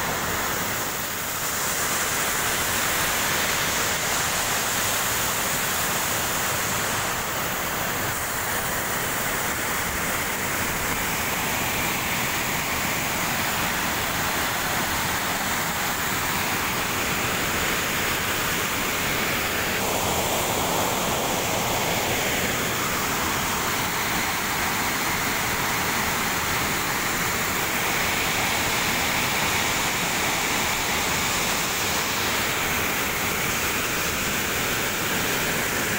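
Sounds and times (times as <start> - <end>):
waterfall pouring into pool: 0.0 - 35.9.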